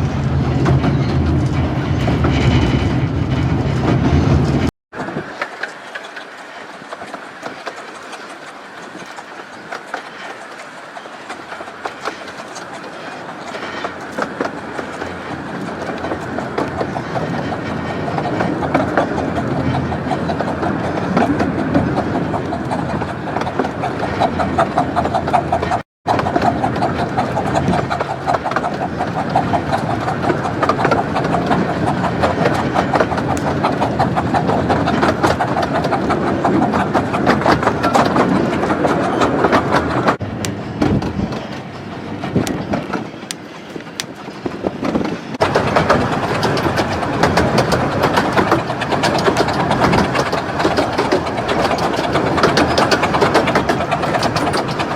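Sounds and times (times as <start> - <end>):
train wheels clattering: 0.0 - 54.9
rapid clicking: 1.4 - 54.9.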